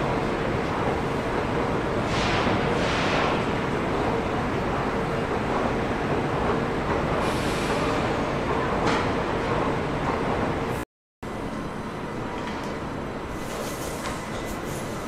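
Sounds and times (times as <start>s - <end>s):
electric trains rumble and hum: 0.0s - 15.0s.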